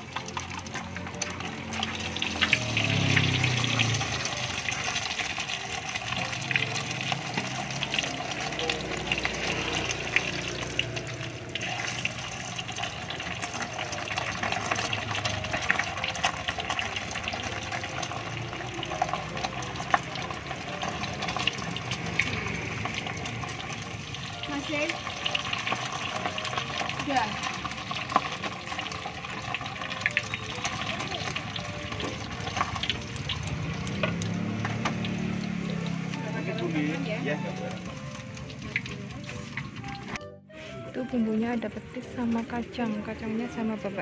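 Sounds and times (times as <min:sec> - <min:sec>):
hot oil bubbling in a wok: 0:00.0 - 0:40.2.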